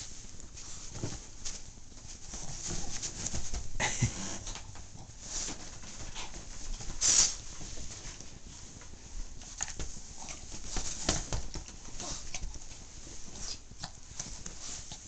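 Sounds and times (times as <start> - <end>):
fabric rustling and paw scratches: 0.0 - 4.5, 5.1 - 15.0.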